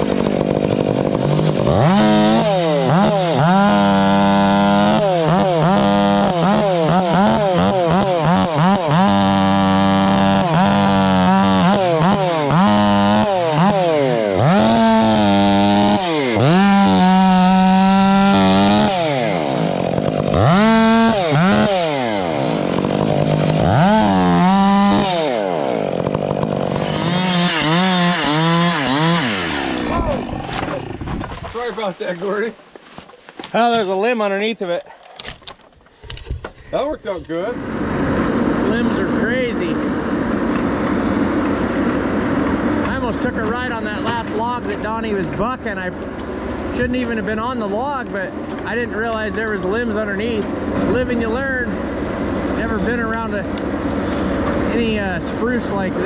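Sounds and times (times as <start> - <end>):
chainsaw revving: 0.0 - 32.5, 37.2 - 56.0.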